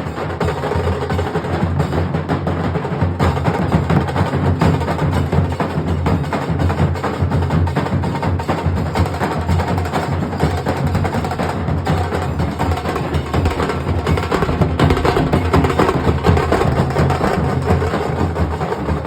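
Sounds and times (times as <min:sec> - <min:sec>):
dhol drums beating: 0:00.0 - 0:19.0.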